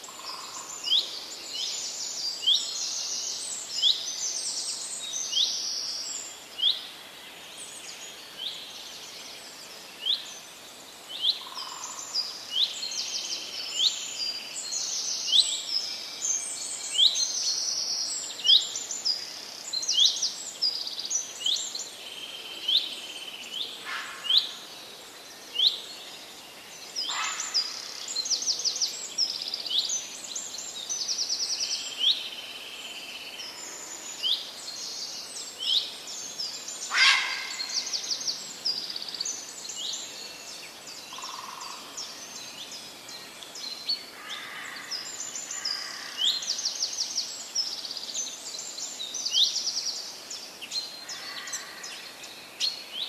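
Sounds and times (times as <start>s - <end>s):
forest birds singing: 0.0s - 53.0s
steady background hiss: 0.0s - 53.0s.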